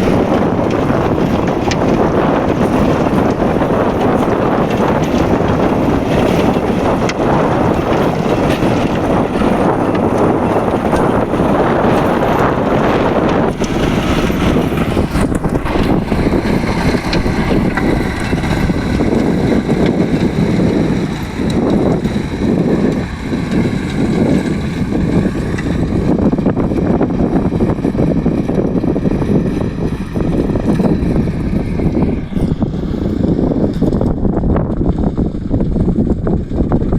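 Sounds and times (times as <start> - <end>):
tractor diesel engine running: 0.0 - 36.9
wind buffeting microphone: 0.0 - 36.9.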